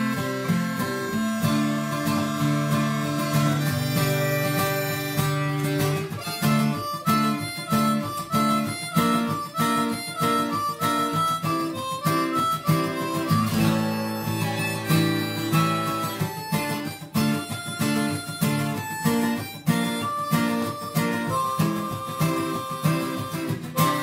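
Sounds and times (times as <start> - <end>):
acoustic guitar accompaniment: 0.0 - 24.0
harmonica melody: 0.0 - 24.0.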